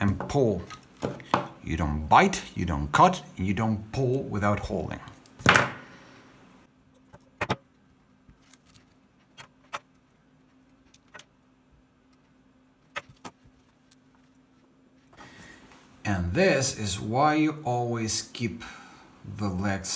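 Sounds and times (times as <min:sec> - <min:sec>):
faint steady hum: 0:00.0 - 0:19.9.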